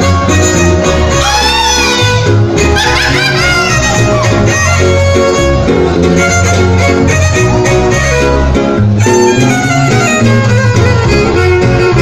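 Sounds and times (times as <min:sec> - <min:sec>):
bass guitar: 0:00.0 - 0:12.0
strummed guitar chords: 0:00.0 - 0:12.0
violin melody with sliding notes: 0:00.0 - 0:12.0.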